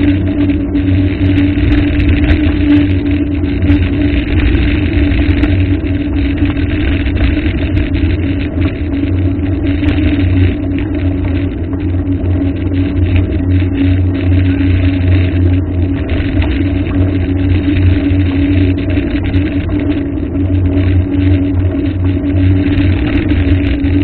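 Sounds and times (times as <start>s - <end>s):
constant low hum: 0.0s - 24.0s
loud steady rumble: 0.0s - 24.0s.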